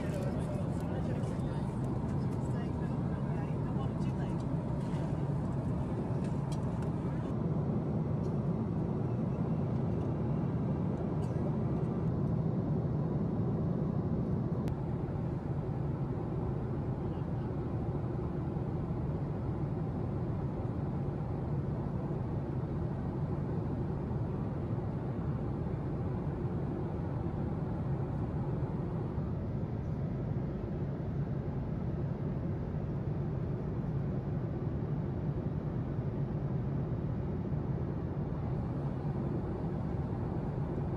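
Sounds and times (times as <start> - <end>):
airplane cabin drone: 0.0 - 40.9.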